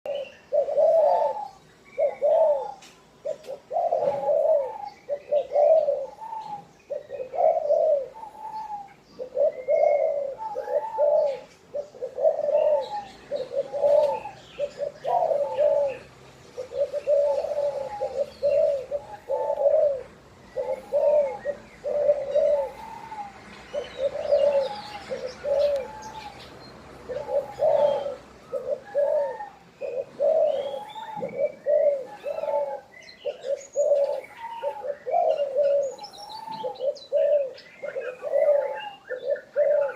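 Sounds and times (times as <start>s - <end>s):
dove cooing: 0.1s - 39.9s.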